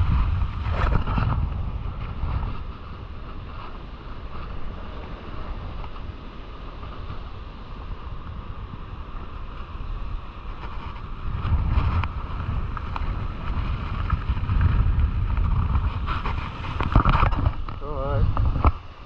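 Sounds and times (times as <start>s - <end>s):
surf washing up beach: 0.0s - 19.0s
wind buffeting microphone: 0.0s - 19.0s.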